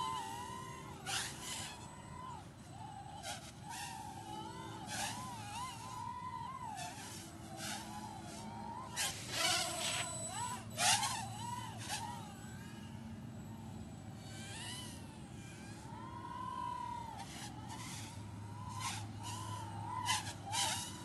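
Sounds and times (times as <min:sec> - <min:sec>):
small drone motors whining: 0:00.0 - 0:21.0.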